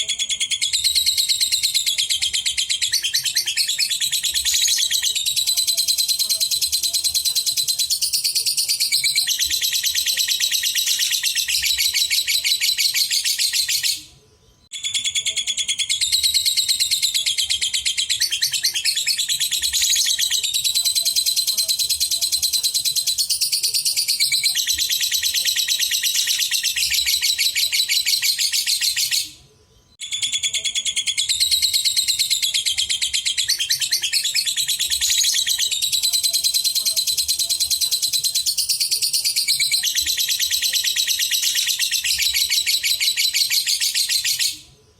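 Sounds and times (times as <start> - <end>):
lovebird chattering trill: 0.0 - 14.0, 14.8 - 29.4, 30.0 - 44.6.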